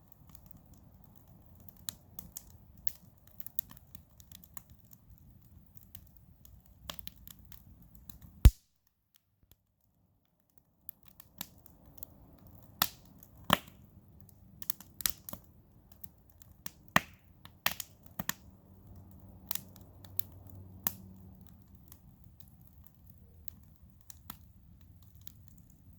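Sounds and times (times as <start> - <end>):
campfire crackling and popping: 0.0 - 25.9
low rumble of fire: 0.0 - 25.9.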